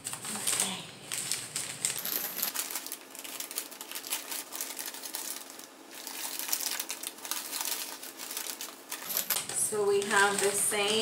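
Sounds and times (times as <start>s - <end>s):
paper wrapping crinkling: 0.0s - 11.0s.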